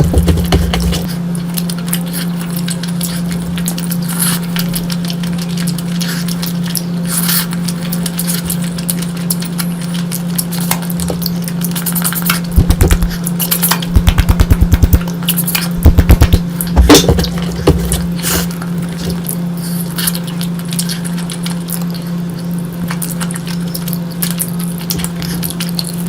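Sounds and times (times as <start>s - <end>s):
steady low hum: 0.0s - 26.0s
wet chewing and mouth clicks: 0.0s - 26.0s.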